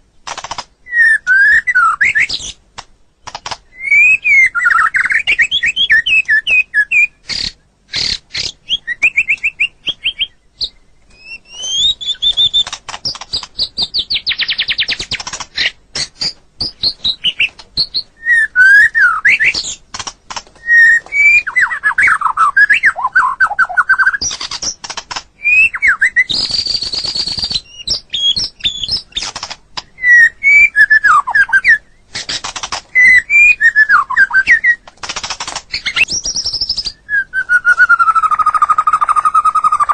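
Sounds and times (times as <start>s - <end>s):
bird singing whistles and trills: 0.8s - 2.6s, 3.3s - 19.8s, 20.6s - 29.4s, 30.0s - 34.9s, 35.6s - 39.9s.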